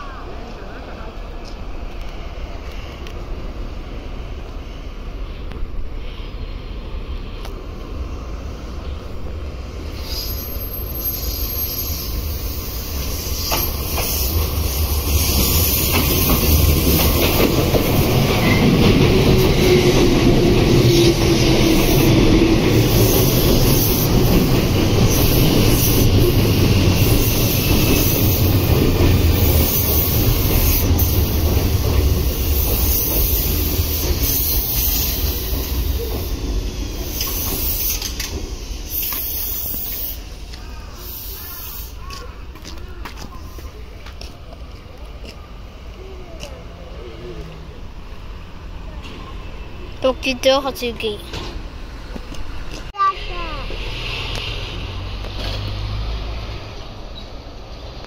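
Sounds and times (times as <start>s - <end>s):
electric train passing: 0.0s - 58.0s
wheels rumbling over rails: 6.9s - 40.7s, 42.0s - 58.0s.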